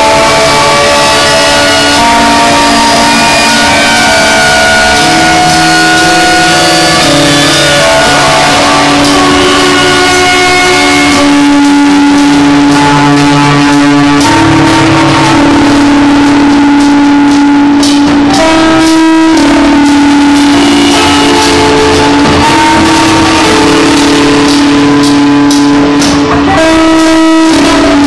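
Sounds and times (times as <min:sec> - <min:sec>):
distorted drone tones: 0:00.0 - 0:28.0
fast pulsing texture: 0:00.0 - 0:28.0.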